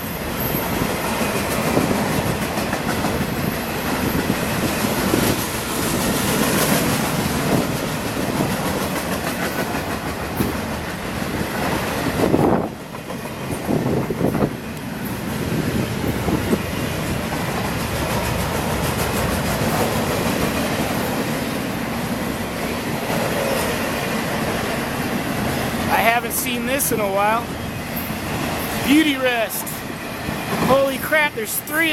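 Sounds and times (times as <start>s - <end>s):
freight train rolling past: 0.0s - 31.9s
wheels clicking over rail joints: 0.4s - 25.8s, 29.7s - 31.9s.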